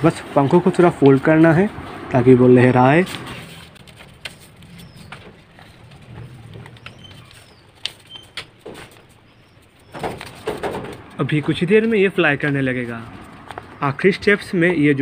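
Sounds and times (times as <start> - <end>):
paper being folded and creased: 0.0 - 11.2, 11.8 - 13.8.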